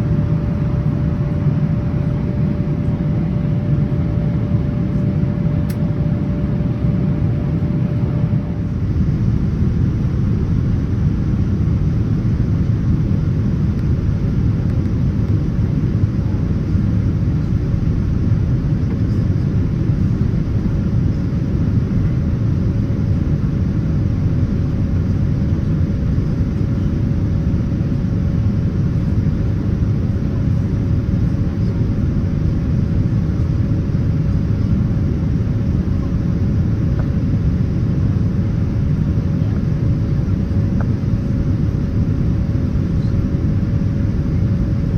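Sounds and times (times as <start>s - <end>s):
airplane cabin engine rumble: 0.0s - 44.9s
faint steady hum: 0.0s - 44.9s.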